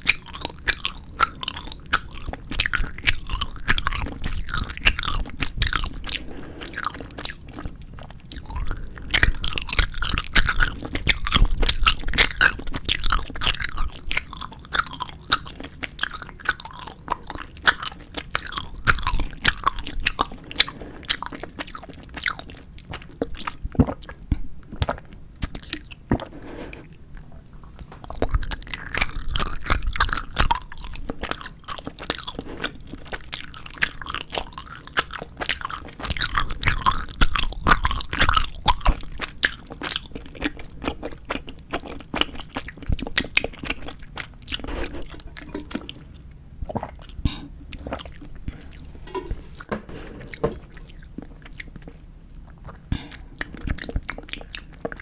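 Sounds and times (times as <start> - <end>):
chewing gummy candies: 0.0 - 49.0, 50.2 - 55.0.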